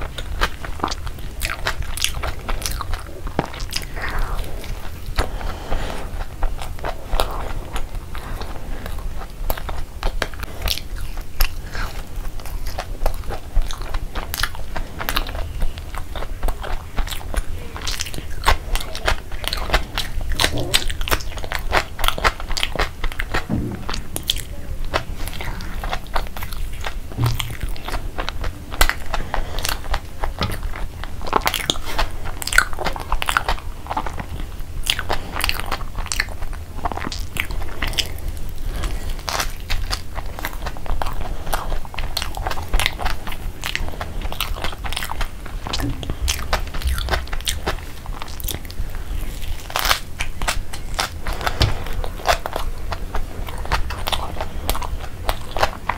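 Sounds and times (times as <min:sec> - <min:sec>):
chewing crispy fried chicken: 0:00.0 - 0:55.9.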